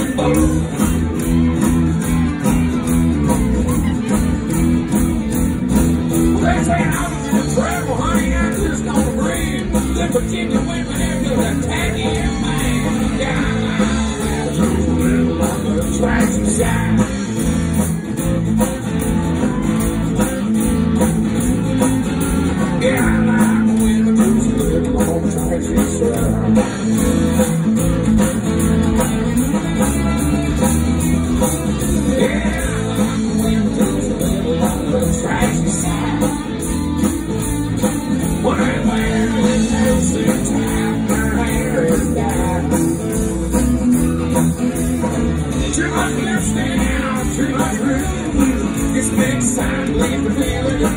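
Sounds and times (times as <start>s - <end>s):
live country band music: 0.0s - 50.9s.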